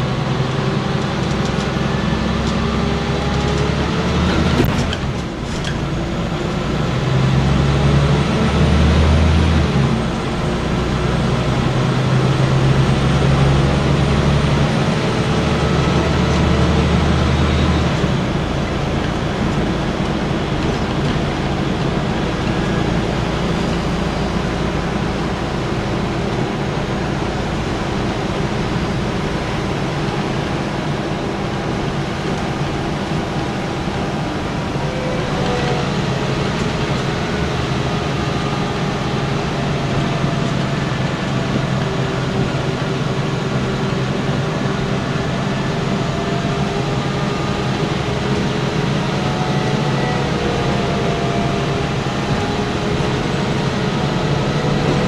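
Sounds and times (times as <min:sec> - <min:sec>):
bus diesel engine: 0:00.0 - 0:55.0
road and drivetrain noise: 0:00.0 - 0:55.0.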